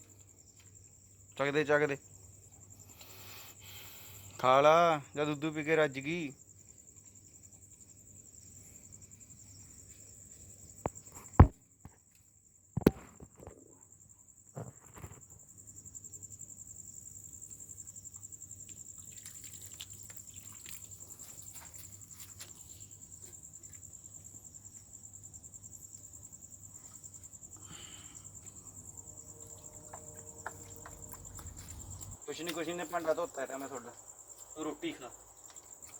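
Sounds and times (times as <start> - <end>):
crickets chirring: 0.0 - 35.9.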